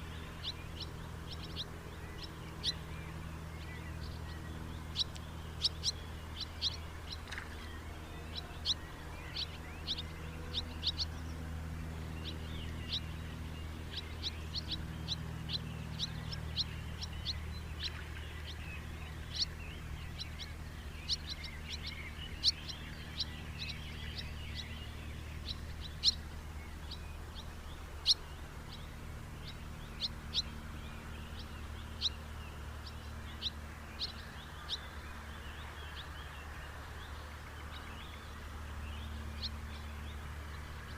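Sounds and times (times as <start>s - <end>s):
house martins chirping: 0.0s - 40.9s
low steady hum: 0.0s - 40.9s.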